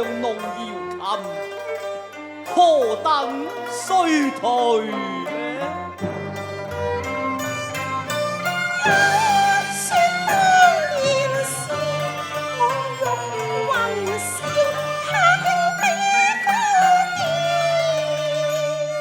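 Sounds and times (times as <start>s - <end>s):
traditional chinese instrumental ensemble: 0.0s - 19.0s.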